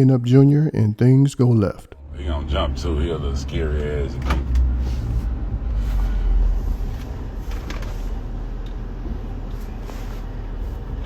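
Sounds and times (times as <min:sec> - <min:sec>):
truck engine idling: 0:02.0 - 0:11.0.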